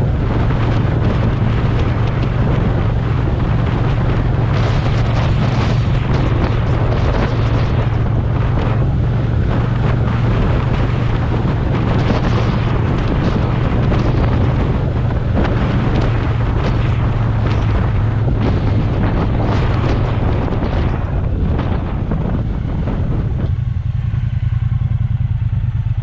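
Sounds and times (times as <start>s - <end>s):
motorcycle engine drone: 0.0s - 26.0s
wind noise on microphone: 0.0s - 26.0s.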